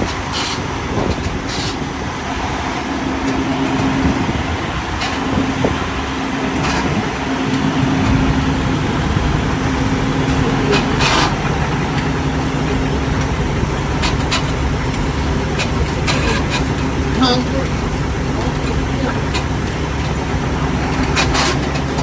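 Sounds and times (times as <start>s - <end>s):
bus engine idling: 0.0s - 22.0s
worn drive belt noise: 0.0s - 22.0s.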